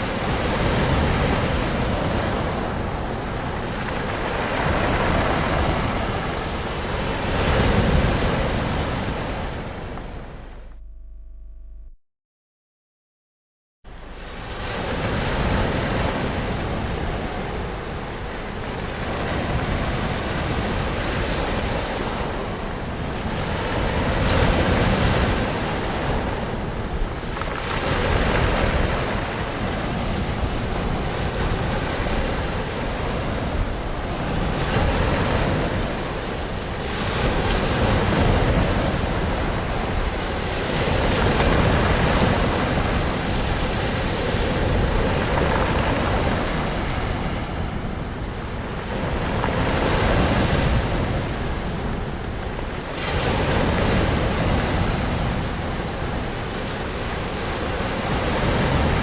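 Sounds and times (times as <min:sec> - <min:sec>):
ocean waves breaking: 0:00.0 - 0:10.8, 0:13.9 - 0:59.0.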